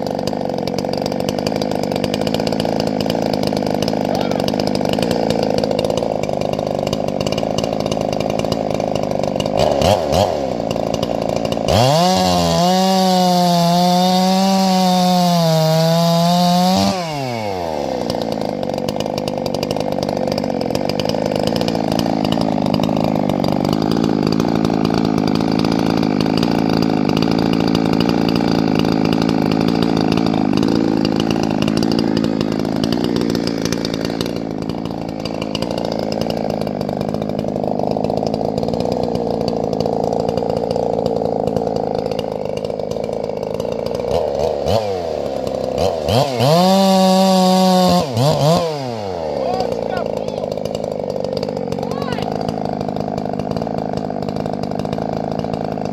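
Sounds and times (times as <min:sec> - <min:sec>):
chainsaw at full throttle: 0:00.0 - 0:55.9
chainsaws cutting firewood: 0:00.0 - 0:55.9.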